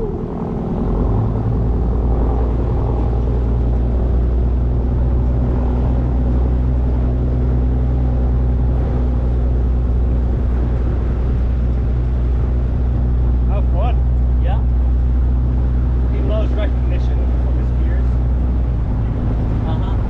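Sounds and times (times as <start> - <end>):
motorboat engine humming: 0.0 - 20.0.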